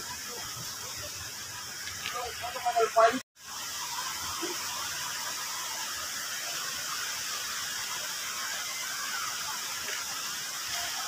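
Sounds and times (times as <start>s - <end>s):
high-pitched outdoor hiss: 0.0s - 11.0s.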